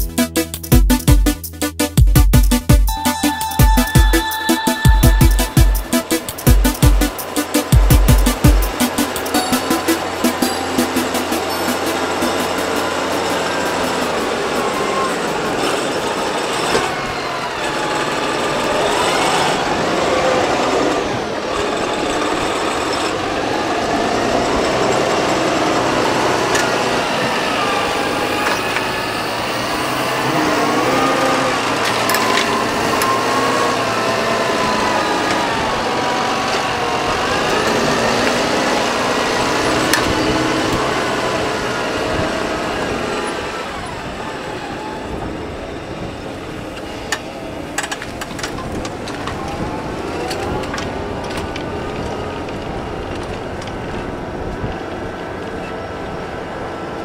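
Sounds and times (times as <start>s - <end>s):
tractor engine under load: 2.9s - 57.0s.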